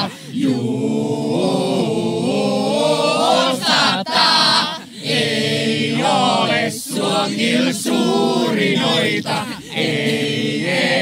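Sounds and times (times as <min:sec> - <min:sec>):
group chanting in held notes: 0:00.0 - 0:11.0.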